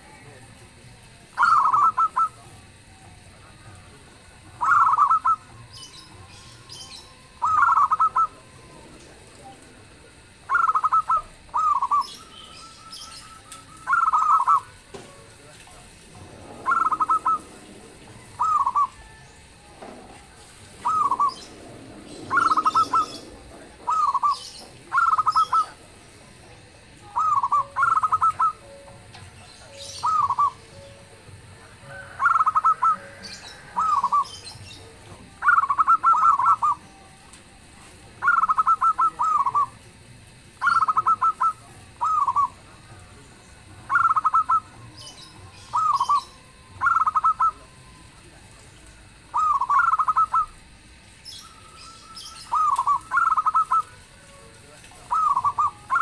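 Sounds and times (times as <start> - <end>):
small birds chirping: 0.0 - 56.0
dove cooing: 1.3 - 15.3, 16.1 - 48.4, 49.1 - 56.0.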